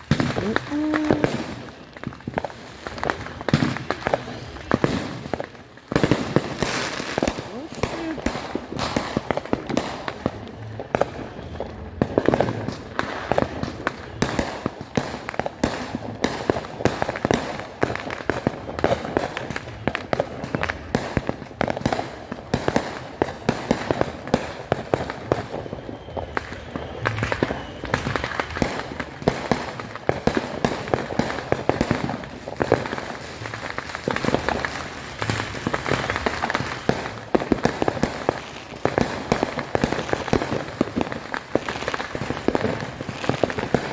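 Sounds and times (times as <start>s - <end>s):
fireworks bangs and crackling pops: 0.0s - 43.9s.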